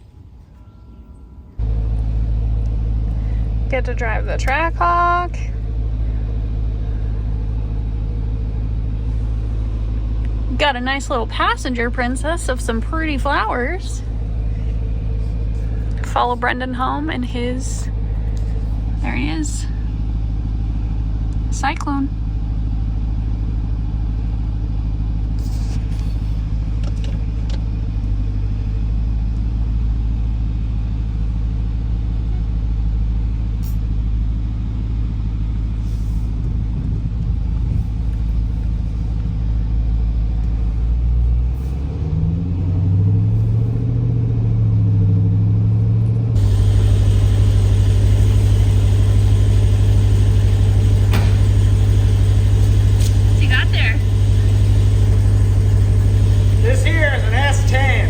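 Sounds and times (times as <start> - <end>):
car engine drone: 0.0 - 58.0
road noise: 1.2 - 21.5, 22.2 - 58.0.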